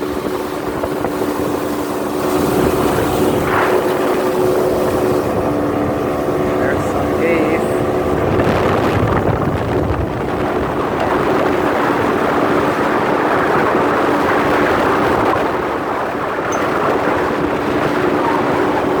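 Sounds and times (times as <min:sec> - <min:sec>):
motorboat engine droning: 0:00.0 - 0:19.0
water rushing: 0:00.0 - 0:19.0.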